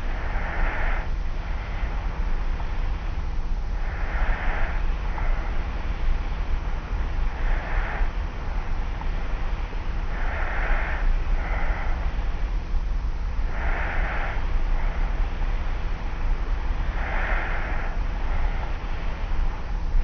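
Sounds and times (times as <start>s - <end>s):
person breathing with slight snores: 0.0s - 12.6s, 13.2s - 20.0s
steady low tape hum: 0.0s - 20.0s.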